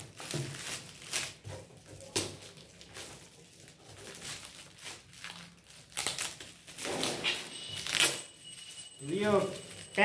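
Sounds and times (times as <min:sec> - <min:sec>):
metallic wrapping paper crinkling: 0:00.0 - 0:10.0.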